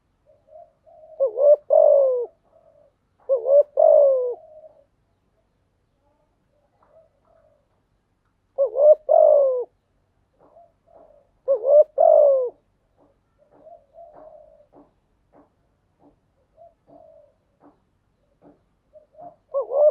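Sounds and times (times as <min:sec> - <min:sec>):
dove cooing: 0:00.2 - 0:05.0, 0:06.5 - 0:07.8, 0:08.5 - 0:15.0, 0:16.0 - 0:19.9.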